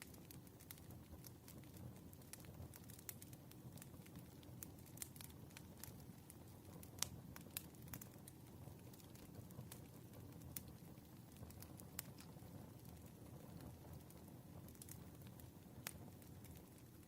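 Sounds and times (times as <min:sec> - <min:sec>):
low rumble of burning logs: 0:00.0 - 0:17.0
wood fire crackling: 0:00.0 - 0:17.0.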